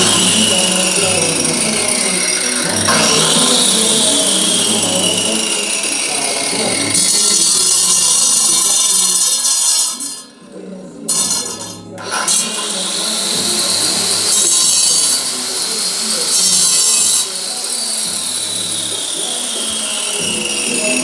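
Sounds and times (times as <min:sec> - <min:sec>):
angle grinder cutting: 0:00.0 - 0:10.4, 0:11.1 - 0:21.0.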